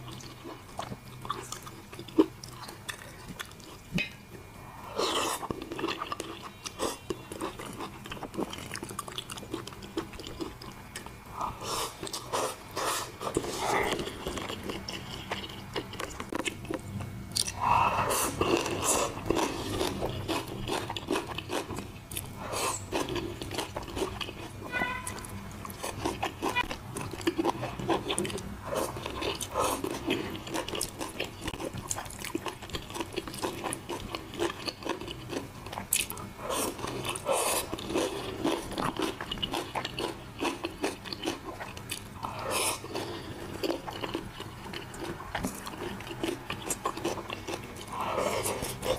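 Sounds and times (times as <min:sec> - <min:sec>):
person chewing crispy food: 0:00.0 - 0:04.0, 0:04.9 - 0:48.9.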